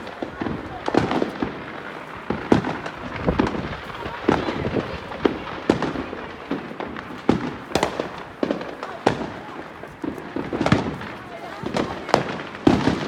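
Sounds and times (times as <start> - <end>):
fireworks banging: 0.0 - 13.0
fireworks popping and crackling: 0.0 - 13.0.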